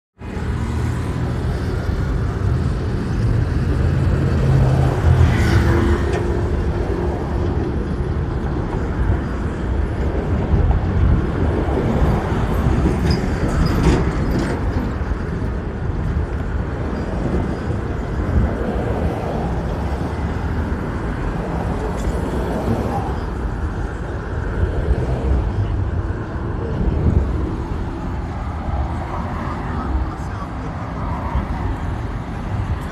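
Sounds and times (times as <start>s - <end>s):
road traffic noise: 0.2s - 32.9s.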